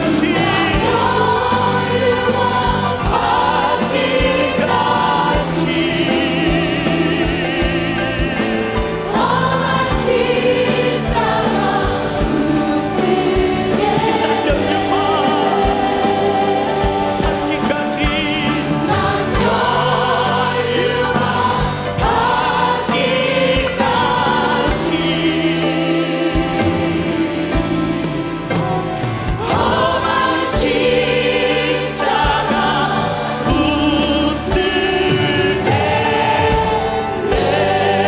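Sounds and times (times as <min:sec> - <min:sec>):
band accompaniment: 0:00.0 - 0:38.0
choir singing a hymn: 0:00.0 - 0:38.0
steady drum beat: 0:00.0 - 0:38.0.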